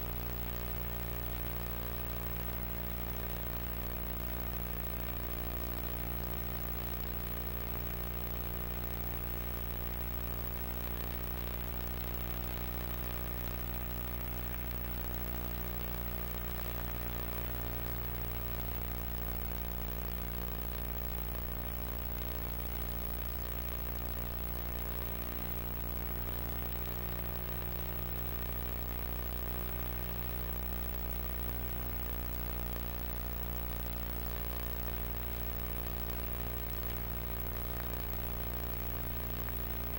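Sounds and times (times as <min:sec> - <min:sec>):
buzzy electrical hum: 0:00.0 - 0:39.9.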